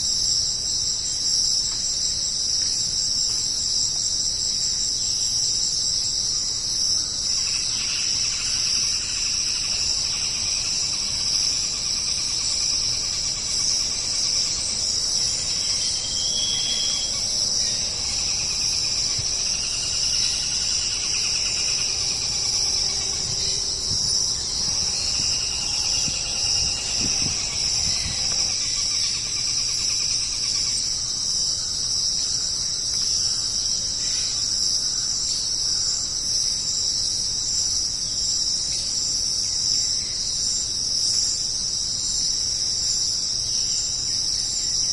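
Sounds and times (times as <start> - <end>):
faint lower insect calls: 0.0 - 44.9
insects chirping: 0.0 - 44.9.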